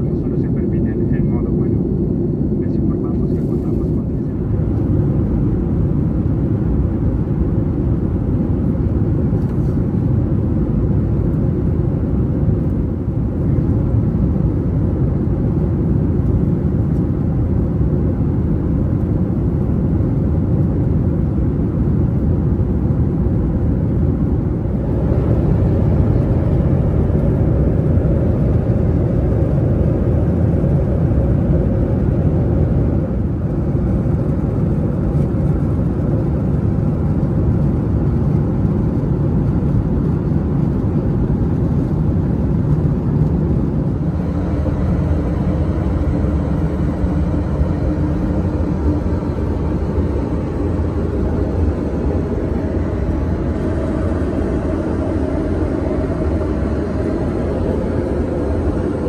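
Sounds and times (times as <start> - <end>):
airplane cabin engine noise: 0.0 - 59.0.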